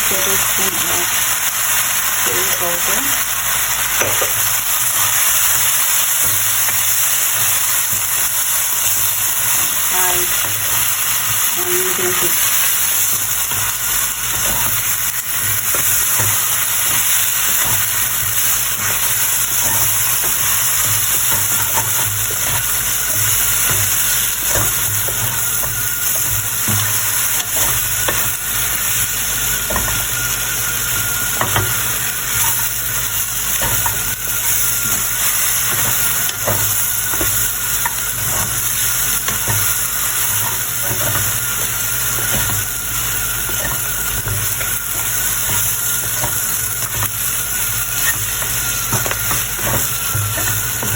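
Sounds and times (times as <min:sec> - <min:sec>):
food sizzling in oil: 0:00.0 - 0:50.9.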